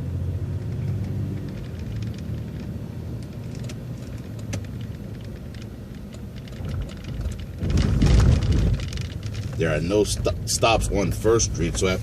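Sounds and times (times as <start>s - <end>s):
bus engine and road rumble: 0.0s - 12.0s
light rattles and clicks: 0.6s - 12.0s.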